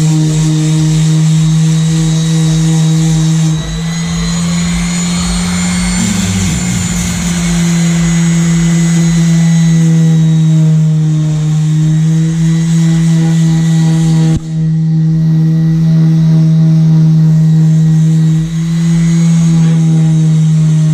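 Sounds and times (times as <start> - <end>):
power sander motor hum: 0.0 - 20.9.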